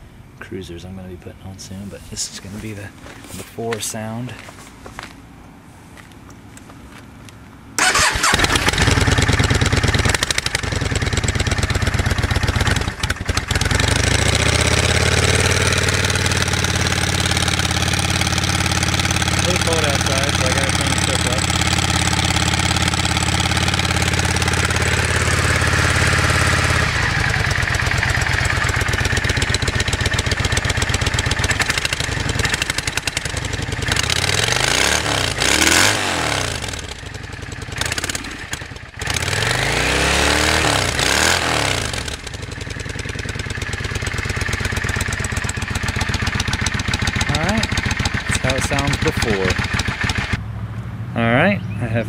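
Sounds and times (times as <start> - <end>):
motorcycle engine idling and revving: 7.7 - 52.0.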